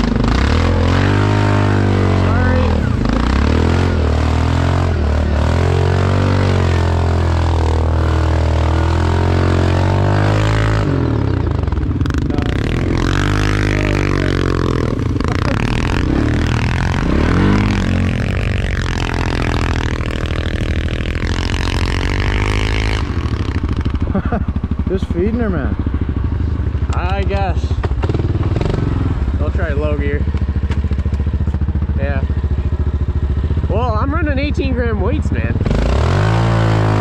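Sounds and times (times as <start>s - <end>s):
atv engine revving: 0.0s - 37.0s.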